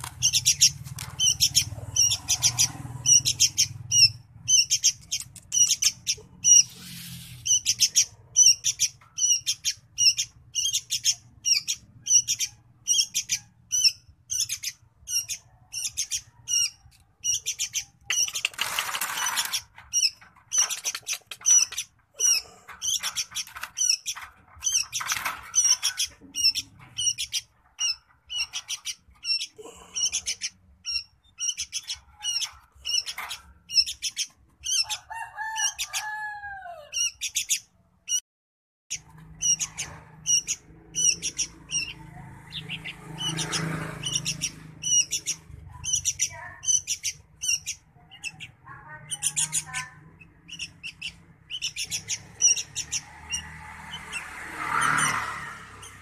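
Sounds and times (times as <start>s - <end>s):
bird chirping: 0.0s - 35.0s, 37.0s - 38.2s, 38.9s - 55.2s.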